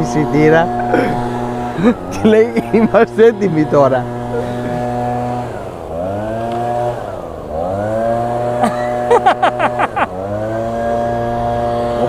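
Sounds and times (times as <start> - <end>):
small two-stroke engine revving: 0.0 - 12.0.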